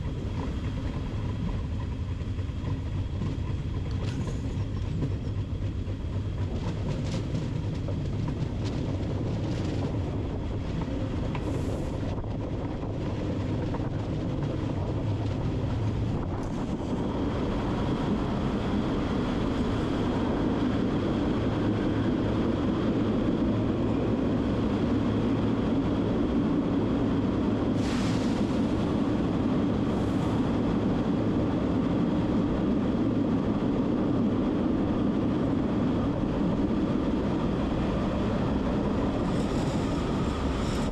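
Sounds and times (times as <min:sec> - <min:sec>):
train rumble: 0:00.0 - 0:40.9.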